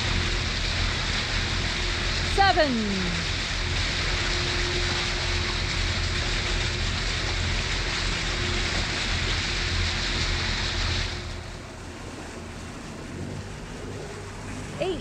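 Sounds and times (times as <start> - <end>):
faint steady hum: 0.0 - 15.0
water hissing along boat hulls: 0.0 - 15.0.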